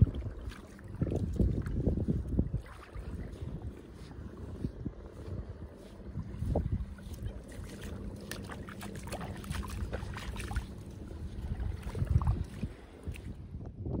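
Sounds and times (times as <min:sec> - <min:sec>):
small ripples lapping on sand: 0:00.0 - 0:13.5
low microphone rumble: 0:00.0 - 0:14.0.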